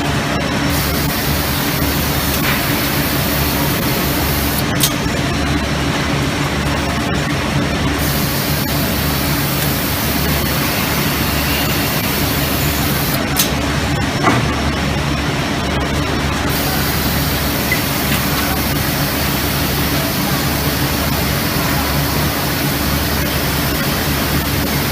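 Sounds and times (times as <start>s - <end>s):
factory machinery hum: 0.0s - 24.9s.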